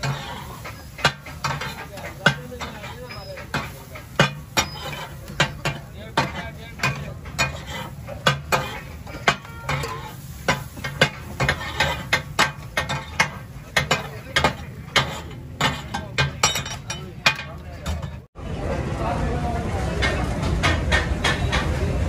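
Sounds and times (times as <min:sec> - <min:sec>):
metal spatula clacking on griddle: 0:00.0 - 0:18.3.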